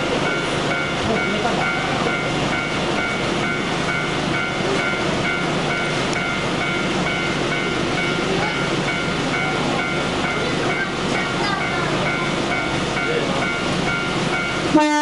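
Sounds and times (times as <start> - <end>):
train wheel and rail noise: 0.0 - 15.0
two-tone electronic warning beep: 0.1 - 15.0.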